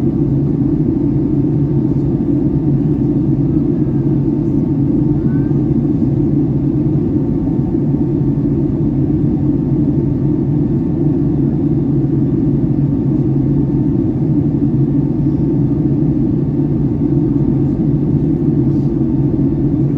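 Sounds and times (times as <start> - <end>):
airplane cabin engine drone: 0.0 - 19.9.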